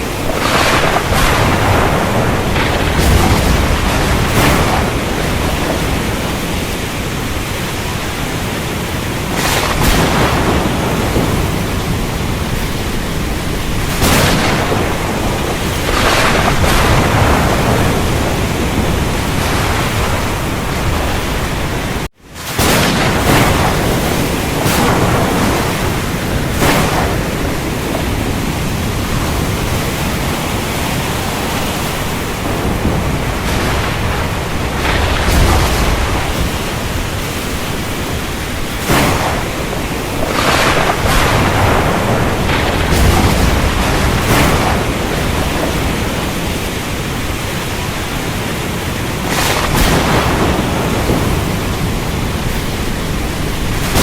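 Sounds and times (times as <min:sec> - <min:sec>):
steady rain: 0:00.0 - 0:54.0
thunder rumbles: 0:00.0 - 0:54.0.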